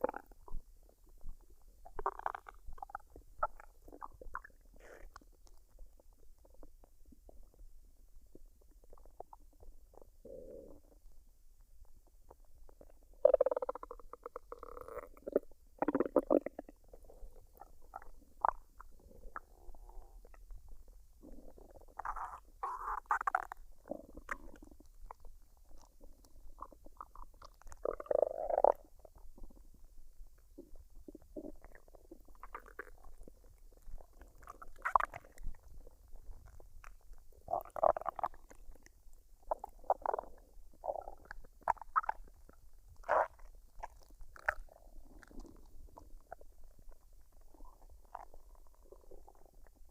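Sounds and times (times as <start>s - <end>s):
stomach gurgling and rumbling: 0.0s - 49.9s.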